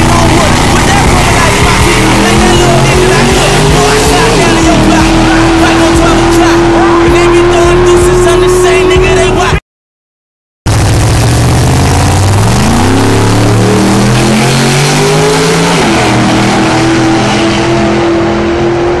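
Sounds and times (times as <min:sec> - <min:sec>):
drag racing engine full throttle: 0:00.0 - 0:09.6, 0:10.7 - 0:19.0.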